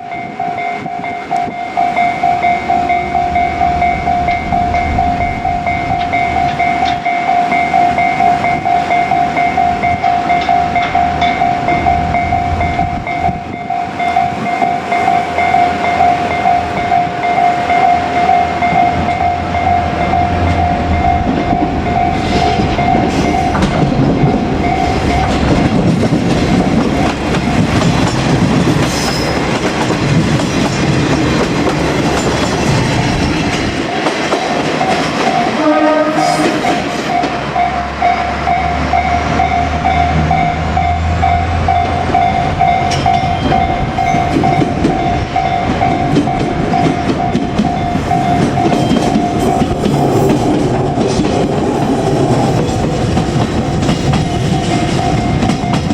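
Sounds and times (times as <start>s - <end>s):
level crossing warning bell: 0.0s - 51.0s, 51.6s - 55.9s
train wheels clattering on rails: 0.1s - 55.9s.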